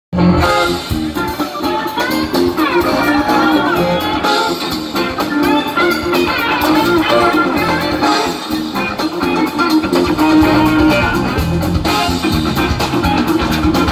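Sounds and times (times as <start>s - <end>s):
live rock band playing: 0.1s - 13.9s
slide guitar gliding in pitch: 0.2s - 13.9s.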